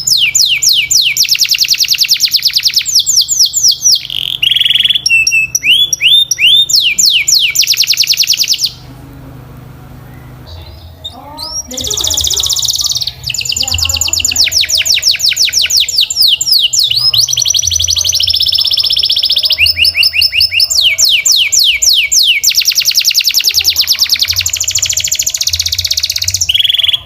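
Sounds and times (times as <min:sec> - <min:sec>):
canary singing rapid trills: 0:00.0 - 0:08.9, 0:10.0 - 0:27.0.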